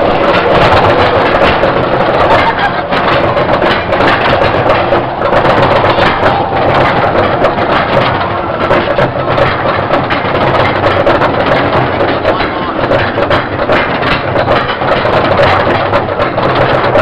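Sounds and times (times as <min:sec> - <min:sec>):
rapid clicking of lift chain: 0:00.0 - 0:17.0
roller coaster mechanical rumble: 0:00.0 - 0:17.0.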